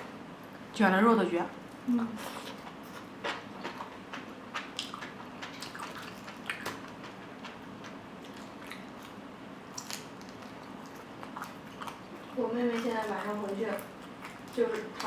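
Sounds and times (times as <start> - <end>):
person chewing food: 2.2 - 15.0.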